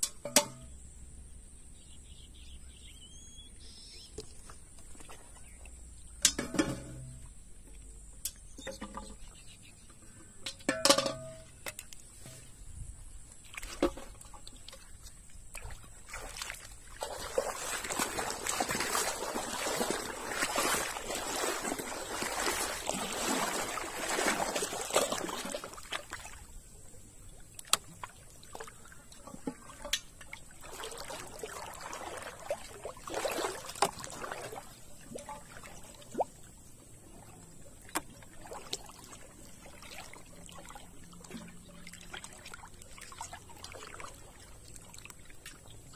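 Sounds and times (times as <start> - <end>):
water sloshing and splashing: 4.2 - 45.9.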